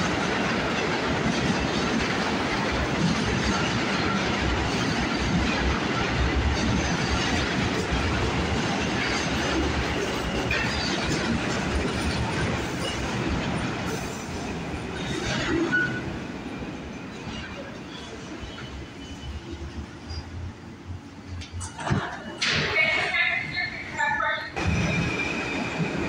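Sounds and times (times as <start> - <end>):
subway train wheels clattering: 0.0 - 26.0.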